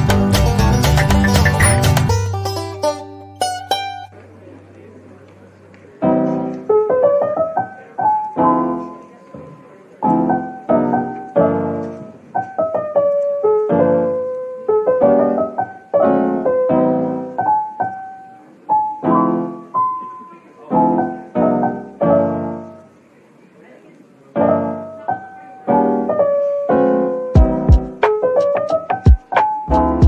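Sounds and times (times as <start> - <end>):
gentle piano tune: 0.0 - 23.1, 24.0 - 30.0.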